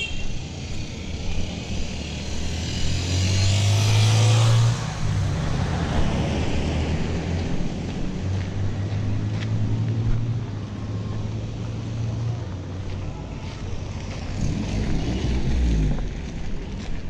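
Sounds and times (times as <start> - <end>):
motorcycle passing by: 0.0 - 12.4, 13.9 - 16.4
vehicle engines running: 0.0 - 17.0.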